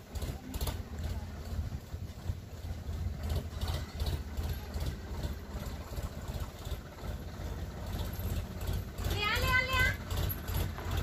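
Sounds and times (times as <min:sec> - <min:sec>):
tractor engine low throb: 0:00.0 - 0:11.0.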